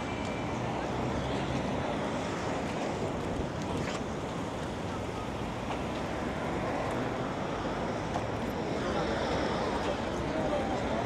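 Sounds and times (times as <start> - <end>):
street noise: 0.0 - 11.0
traffic: 0.0 - 11.0.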